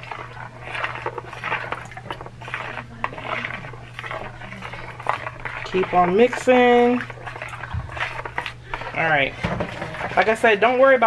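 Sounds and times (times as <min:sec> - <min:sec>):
spoon stirring wet rice in bowl: 0:00.0 - 0:11.0.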